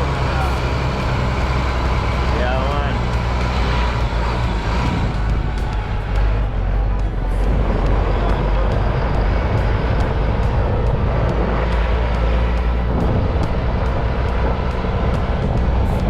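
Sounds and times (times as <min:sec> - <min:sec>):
tyres on road: 0:00.0 - 0:16.0
vehicle engine and road rumble: 0:00.0 - 0:16.0
wind noise: 0:00.0 - 0:16.0.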